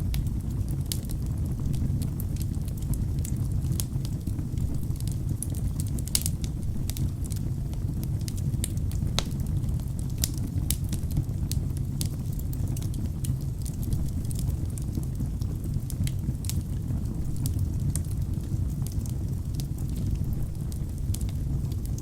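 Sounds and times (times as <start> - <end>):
fire rumbling: 0.0 - 22.0
logs crackling and popping: 0.0 - 22.0.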